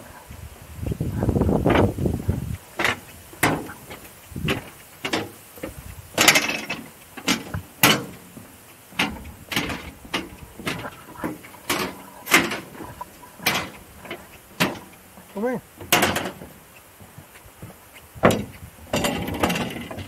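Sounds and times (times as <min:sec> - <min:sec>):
footsteps crunching on gravel track: 0:00.0 - 0:20.0.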